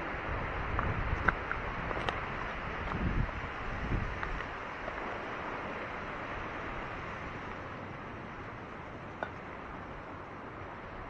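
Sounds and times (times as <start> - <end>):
waves washing onto rocky shore: 0.1 - 11.0.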